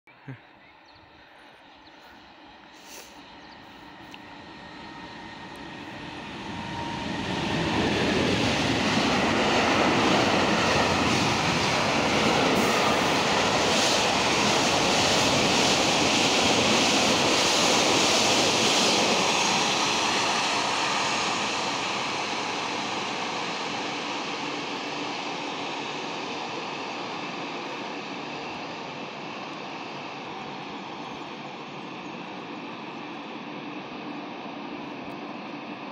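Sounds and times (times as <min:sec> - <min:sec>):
freight train wheels rumbling on rails: 0:01.2 - 0:35.9.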